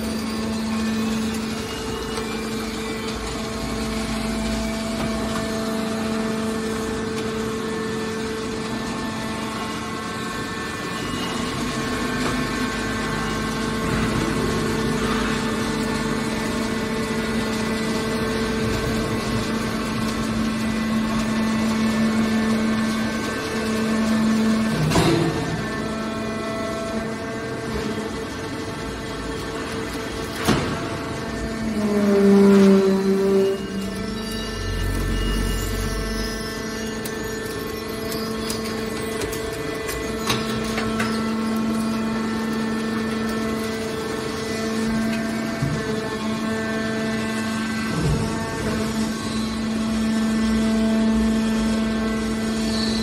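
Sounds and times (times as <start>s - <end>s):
hydraulic power unit humming: 0.0s - 53.0s.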